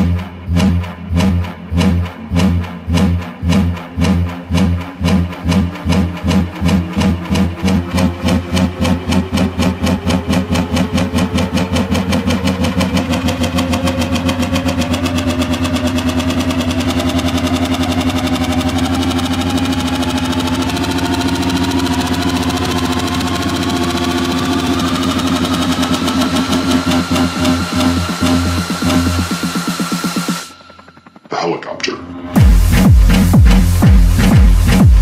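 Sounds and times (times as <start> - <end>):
held low bass: 0.0 - 15.0, 15.6 - 35.0
pulsing drum roll: 0.0 - 31.3, 32.2 - 35.0
rising synth sweep: 0.0 - 35.0.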